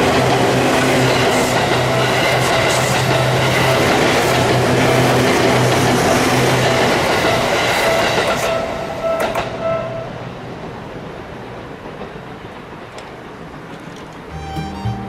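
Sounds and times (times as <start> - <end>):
electric train rolling: 0.0 - 15.0.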